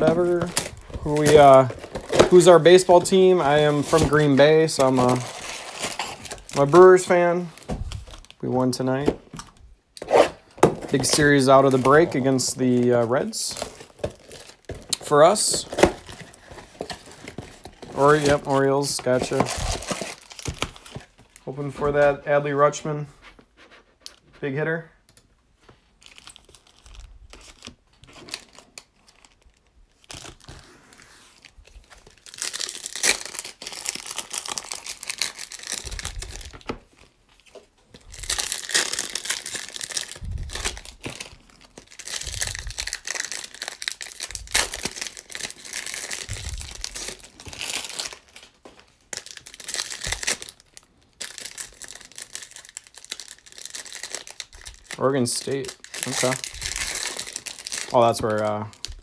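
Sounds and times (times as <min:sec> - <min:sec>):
foil wrappers crinkling and tearing: 0:00.0 - 0:08.4, 0:10.9 - 0:21.2, 0:26.0 - 0:59.0.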